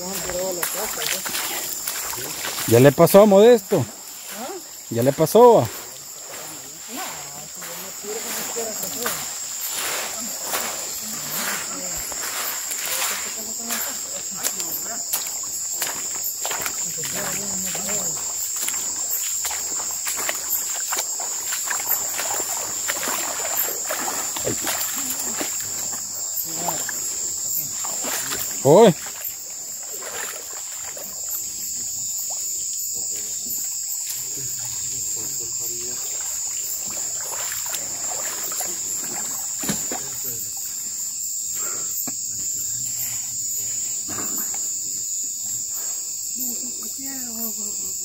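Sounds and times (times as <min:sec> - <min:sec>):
night insects droning: 0:00.0 - 0:48.0.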